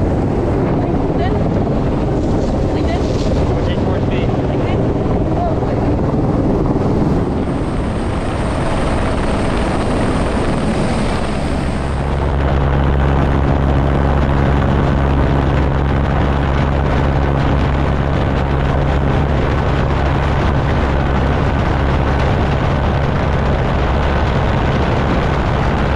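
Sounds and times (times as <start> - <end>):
helicopter rotor and engine drone: 0.0 - 25.9.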